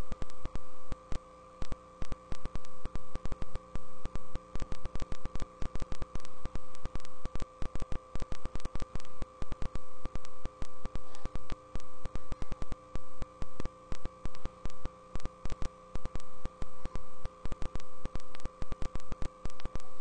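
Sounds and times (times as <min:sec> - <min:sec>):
static hiss cutting in and out: 0:00.0 - 0:20.0
steady electrical hum: 0:00.0 - 0:20.0.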